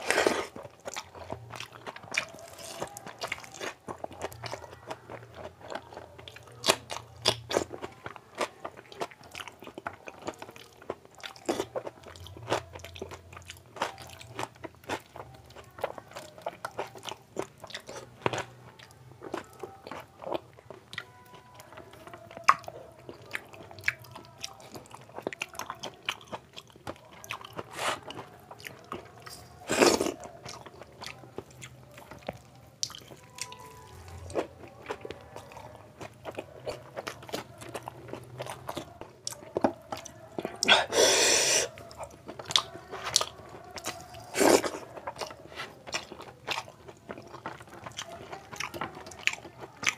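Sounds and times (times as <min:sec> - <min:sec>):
chewing and crunching food: 0:00.0 - 0:49.9.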